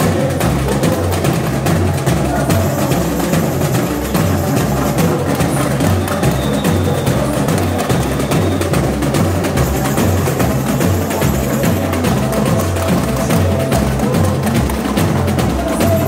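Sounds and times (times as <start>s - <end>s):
bass drum beats: 0.0s - 16.0s
fast samba percussion: 0.0s - 16.0s.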